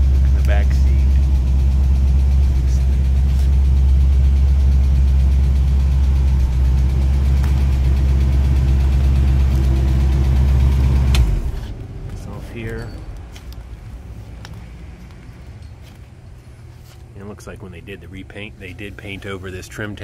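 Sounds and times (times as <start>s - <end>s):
car engine idling: 0.0s - 16.7s.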